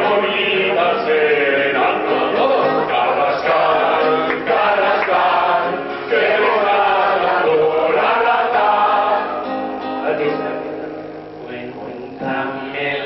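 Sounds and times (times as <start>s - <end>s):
men singing: 0.0s - 10.6s, 11.4s - 13.0s
acoustic guitar: 0.0s - 13.0s.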